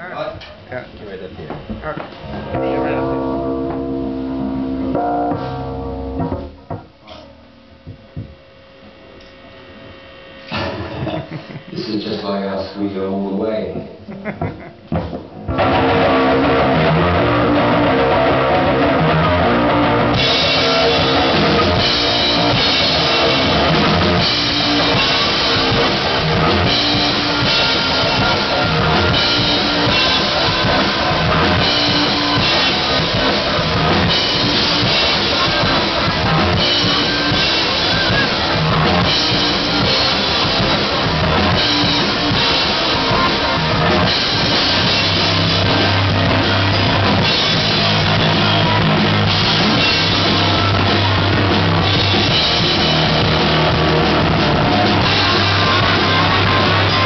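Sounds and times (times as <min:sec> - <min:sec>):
electric guitar: 0:01.4 - 0:12.7, 0:13.6 - 0:57.0
electric bass guitar: 0:01.4 - 0:57.0
drum kit with cymbals: 0:01.8 - 0:07.4, 0:14.8 - 0:57.0.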